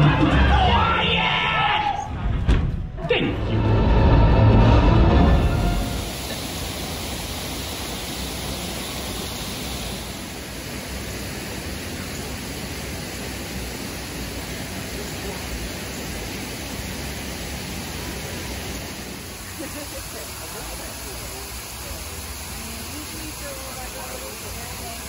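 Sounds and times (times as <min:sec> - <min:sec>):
outdoor background rushing hiss: 0:03.8 - 0:25.0.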